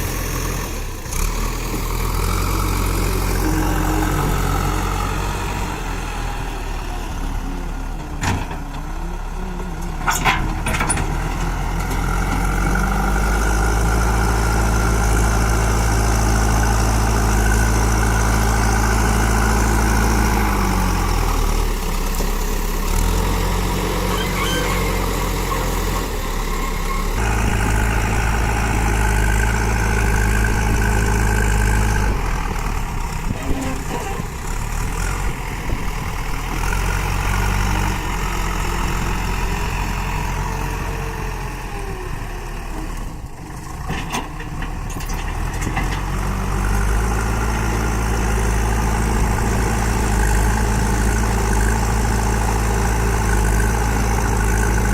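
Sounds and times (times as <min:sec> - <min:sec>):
diesel engine revving: 0:00.0 - 0:54.9.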